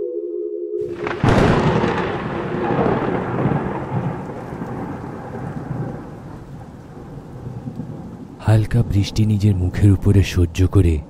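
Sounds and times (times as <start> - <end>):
steady rain: 0.9 - 11.0
thunder rumbling: 0.9 - 11.0.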